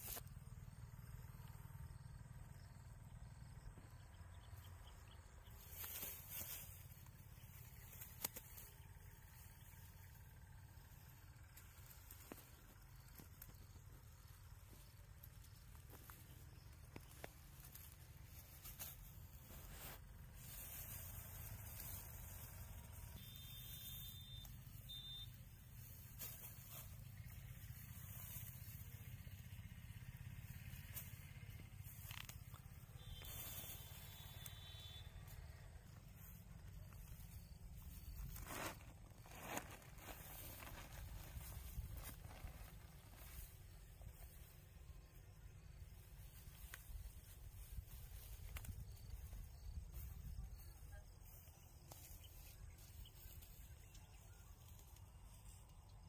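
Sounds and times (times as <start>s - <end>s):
faint low outdoor rumble: 0.0s - 56.0s.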